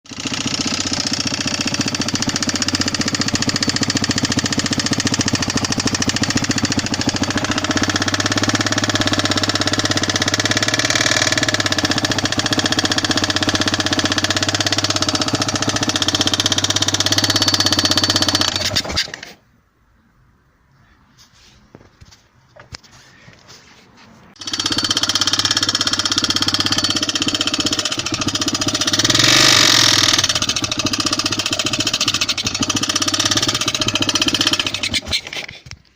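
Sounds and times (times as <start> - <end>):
motorcycle engine running: 0.1 - 19.1, 24.4 - 35.3
loud mechanical engine noise: 0.1 - 19.3, 24.4 - 35.8.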